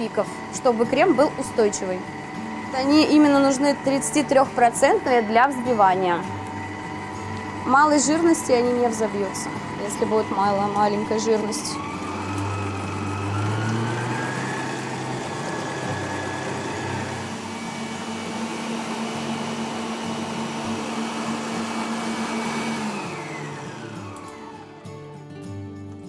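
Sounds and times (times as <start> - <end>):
stand mixer motor whine: 0.0 - 24.9.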